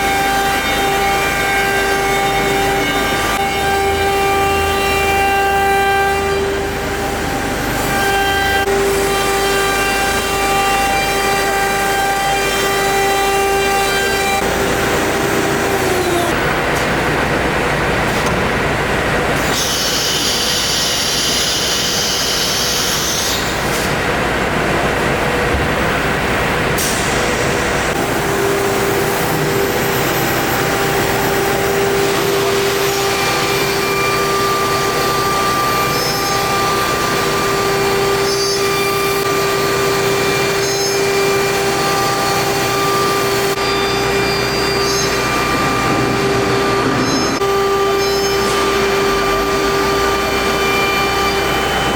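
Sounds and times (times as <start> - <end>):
router machine running: 0.0 - 25.4, 26.2 - 51.9
spindle whine: 0.0 - 51.9.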